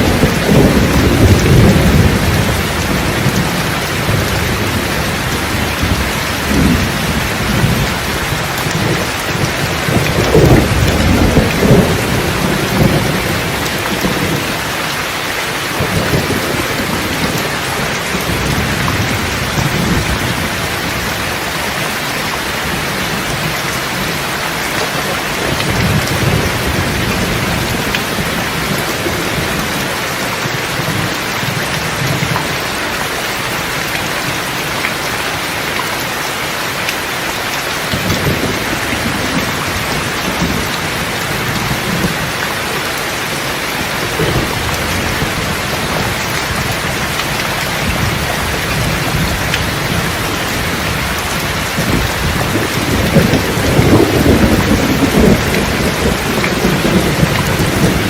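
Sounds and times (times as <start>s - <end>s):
rolling thunder: 0.0s - 32.6s, 37.9s - 42.5s, 43.3s - 58.0s
heavy rain: 0.0s - 58.0s.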